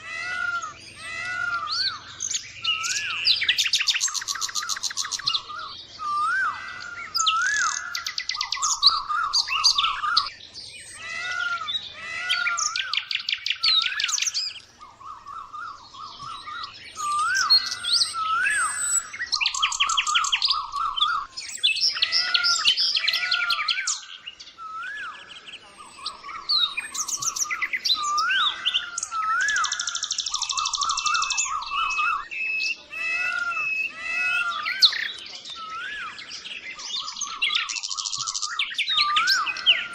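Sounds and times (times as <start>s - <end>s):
birds chirping and trilling: 0.0s - 39.9s
whistled bird notes: 0.0s - 39.9s.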